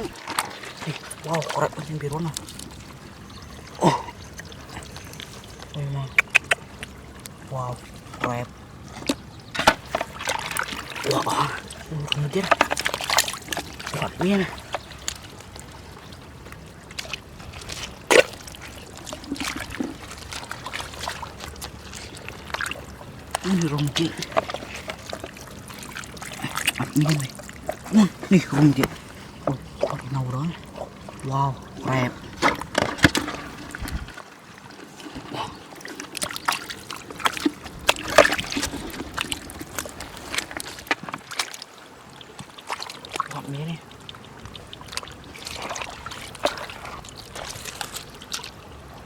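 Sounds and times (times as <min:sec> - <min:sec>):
water splashing and trickling: 0:00.0 - 0:49.0.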